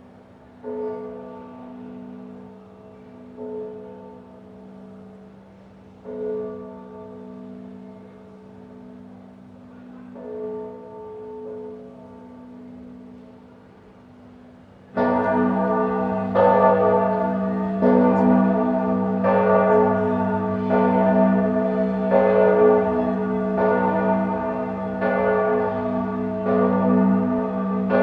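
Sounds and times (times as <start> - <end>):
church bells ringing: 0.6 - 28.0.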